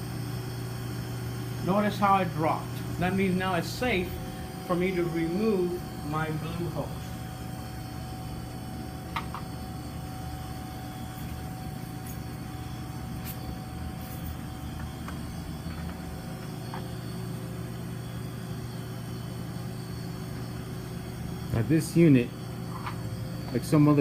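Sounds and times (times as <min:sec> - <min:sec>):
refrigeration unit humming: 0:00.0 - 0:24.0.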